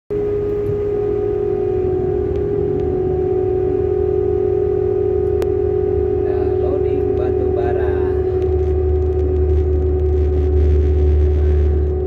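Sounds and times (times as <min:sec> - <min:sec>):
low rumble: 0:00.1 - 0:12.0
machinery high hum: 0:00.1 - 0:12.0.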